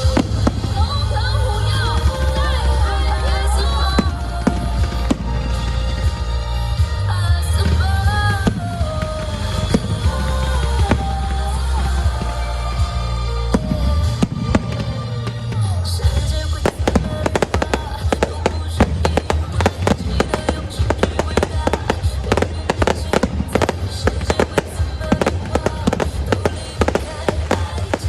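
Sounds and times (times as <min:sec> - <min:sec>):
fireworks banging and crackling: 0:00.0 - 0:28.0
loud music with bass: 0:00.0 - 0:28.0.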